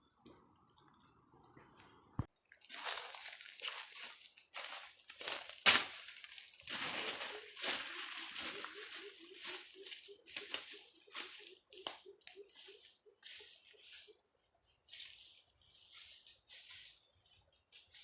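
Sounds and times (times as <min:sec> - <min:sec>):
dry leaves rustling and crunching: 0:02.6 - 0:14.2, 0:14.9 - 0:18.0.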